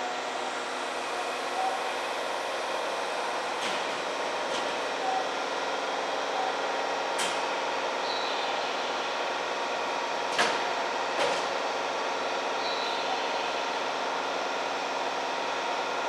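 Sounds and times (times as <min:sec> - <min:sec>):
train equipment hum: 0:00.0 - 0:16.0.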